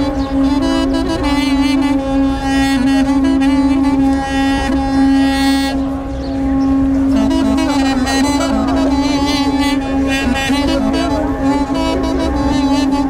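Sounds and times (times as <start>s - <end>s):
duduk playing slow melody: 0.0s - 13.0s.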